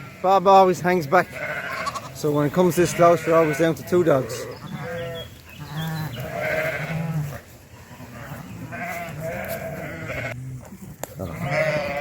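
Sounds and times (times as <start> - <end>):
sheep and lambs bleating: 0.0 - 12.0.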